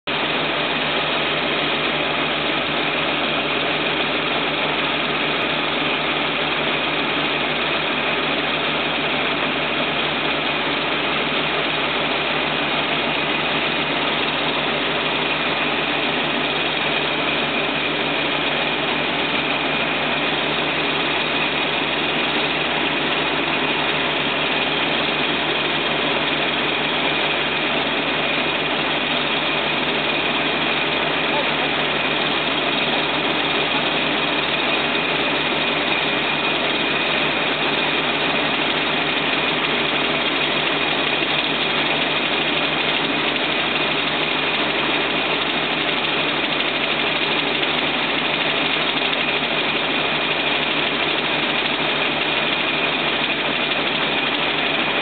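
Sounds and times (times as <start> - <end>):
auger pouring grain: 0.1 - 55.0
combine harvester running: 0.1 - 55.0.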